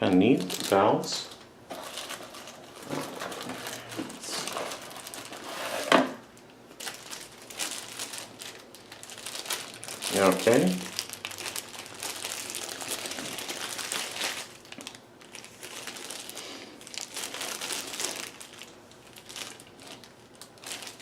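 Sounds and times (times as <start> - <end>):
packaging rustling: 0.0 - 21.0.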